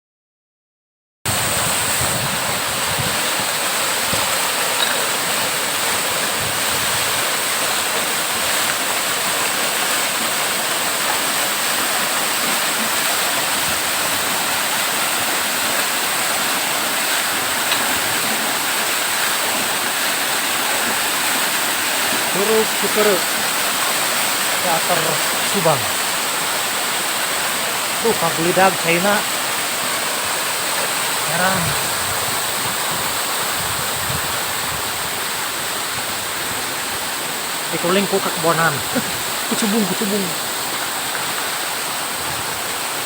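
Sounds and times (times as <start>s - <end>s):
waterfall rushing: 1.3s - 43.0s.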